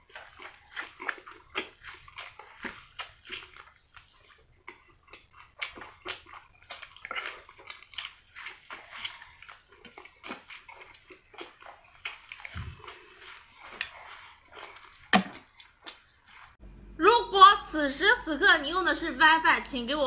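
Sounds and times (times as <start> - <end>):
man chewing and lip-smacking: 0.0 - 16.6.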